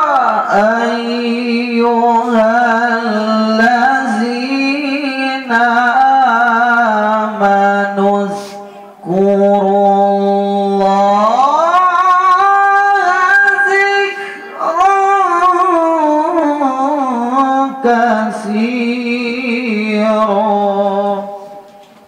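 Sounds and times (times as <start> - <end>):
man reciting melodically: 0.0 - 21.8.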